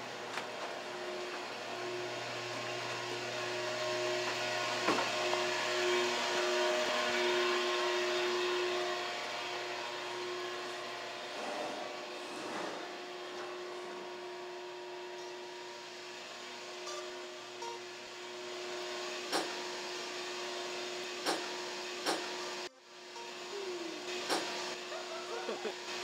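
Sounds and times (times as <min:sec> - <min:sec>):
machinery drone with hiss: 0:00.0 - 0:26.0.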